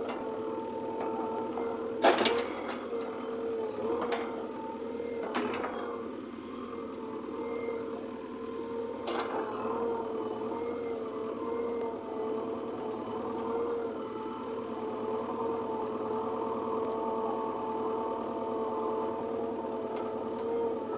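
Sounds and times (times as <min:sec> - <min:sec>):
backhoe engine drone: 0:00.0 - 0:20.9.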